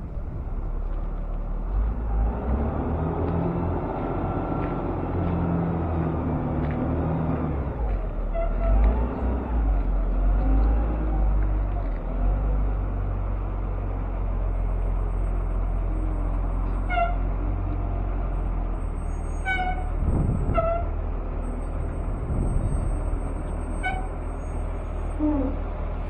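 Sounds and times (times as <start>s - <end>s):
truck rumbling on road: 0.0s - 26.0s.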